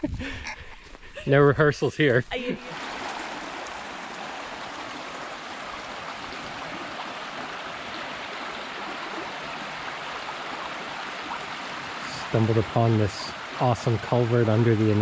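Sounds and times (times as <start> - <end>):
stream rushing through culvert: 2.6 - 15.0.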